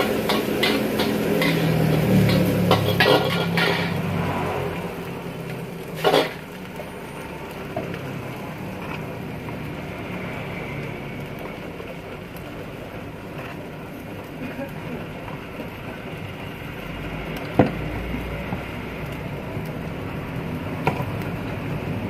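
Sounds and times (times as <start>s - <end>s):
food sizzling in a wok: 0.0s - 22.0s
gas burner noise: 0.0s - 22.0s.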